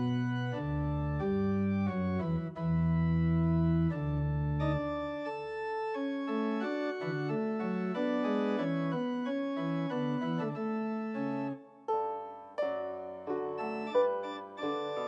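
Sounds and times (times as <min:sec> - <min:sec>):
organ music: 0:00.0 - 0:15.0.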